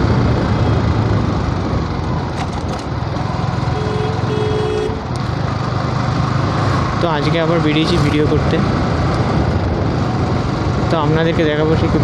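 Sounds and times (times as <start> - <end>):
wind rush on microphone: 0.0 - 3.6, 4.9 - 12.0
motorcycle engine humming: 0.0 - 11.2.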